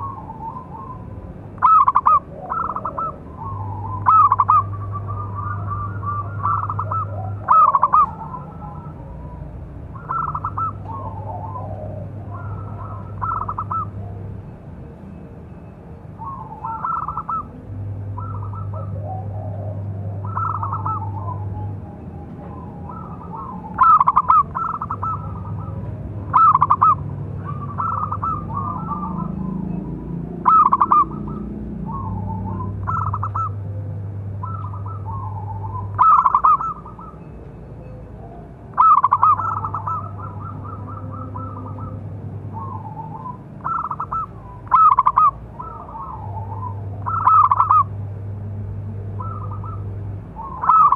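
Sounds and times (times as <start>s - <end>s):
doves cooing: 0.0s - 50.9s
low steady hum: 0.0s - 50.9s.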